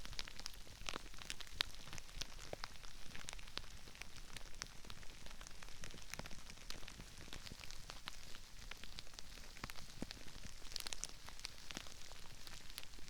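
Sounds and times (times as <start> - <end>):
crispy rice crackling: 0.0 - 13.0.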